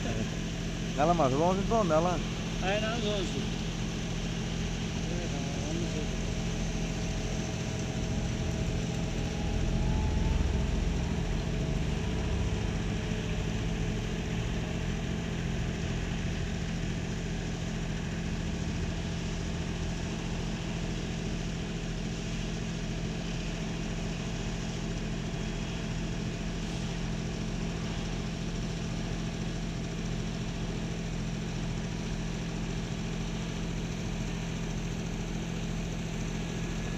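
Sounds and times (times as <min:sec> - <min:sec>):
diesel machinery engine humming: 0:00.0 - 0:36.9.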